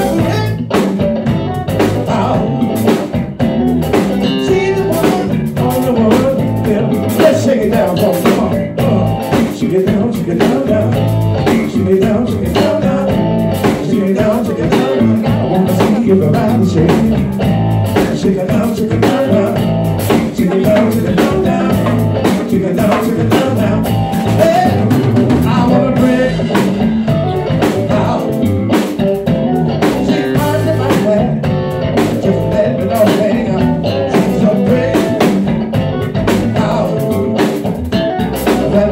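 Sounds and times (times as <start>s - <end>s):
person singing: 0.0s - 0.8s, 1.6s - 3.1s, 4.2s - 38.9s
live blues-funk band playing: 0.0s - 38.9s.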